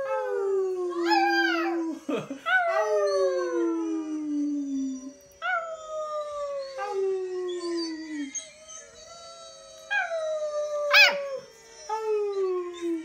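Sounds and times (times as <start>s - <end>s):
puppy howling: 0.0s - 13.0s.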